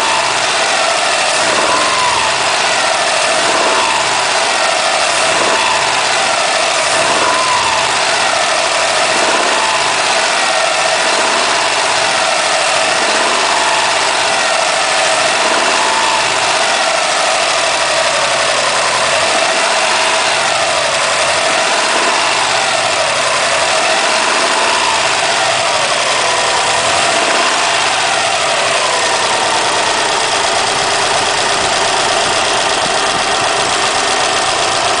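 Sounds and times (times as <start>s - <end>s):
car engine revving: 0.0s - 35.0s
odd engine noise: 0.0s - 35.0s.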